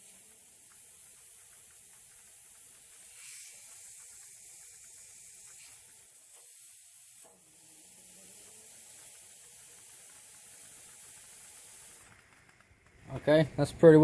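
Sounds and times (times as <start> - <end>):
compressed air hissing through hose: 0.0 - 12.6.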